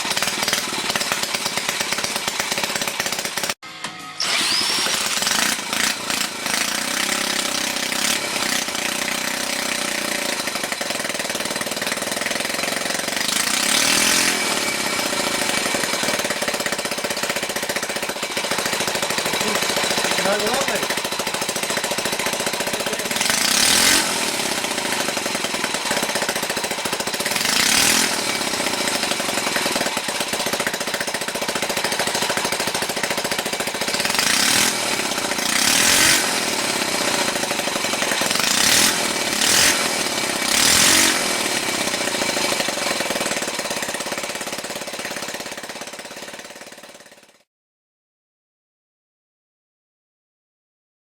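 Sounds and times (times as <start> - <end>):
small engine running: 0.0 - 47.5.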